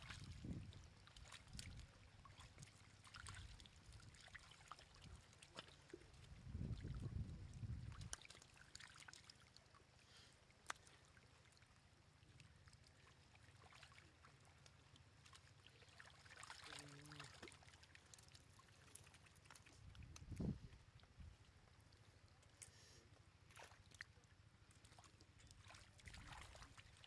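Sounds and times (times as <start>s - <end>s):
shallow water splashing: 0.0s - 20.8s, 23.4s - 27.0s.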